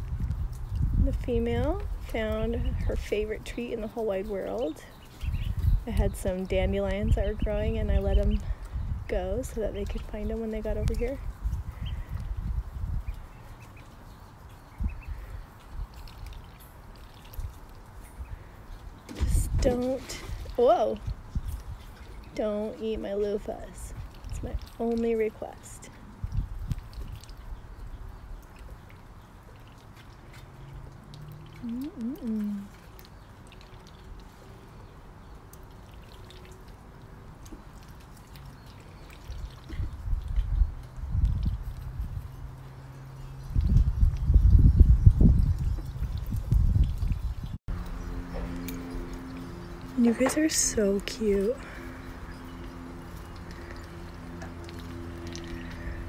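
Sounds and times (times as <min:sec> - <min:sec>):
trickle of running water: 0:08.3 - 0:56.0.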